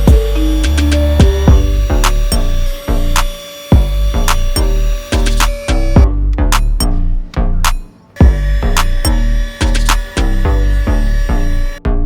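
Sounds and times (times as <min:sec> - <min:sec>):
electronic music with heavy bass beat: 0:00.0 - 0:12.0.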